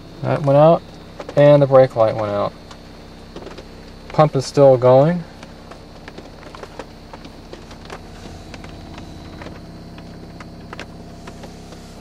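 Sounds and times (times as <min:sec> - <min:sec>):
electric pump motor running: 0:00.0 - 0:12.0
rain tapping on car: 0:00.3 - 0:12.0.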